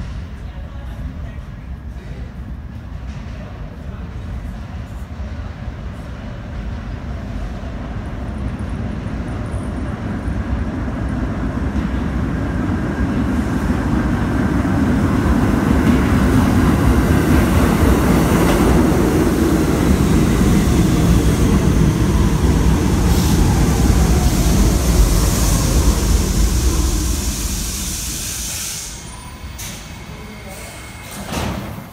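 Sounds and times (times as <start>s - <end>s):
subway train wheels rumbling: 0.0s - 31.9s.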